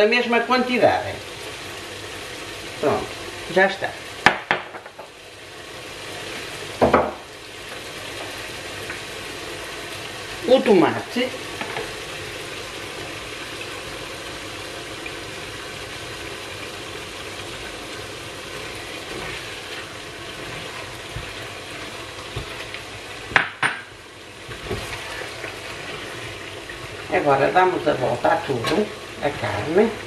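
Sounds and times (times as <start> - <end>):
meat sizzling in a pot: 0.0 - 30.0.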